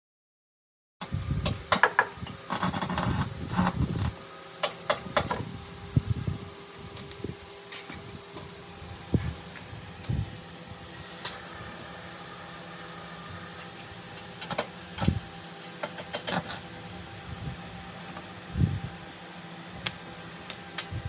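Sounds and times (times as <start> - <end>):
steady mechanical hum: 1.0 - 21.0.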